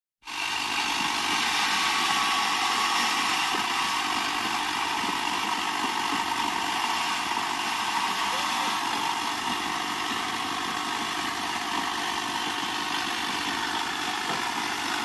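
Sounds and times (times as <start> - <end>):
circular saw cutting branches: 0.2 - 15.0.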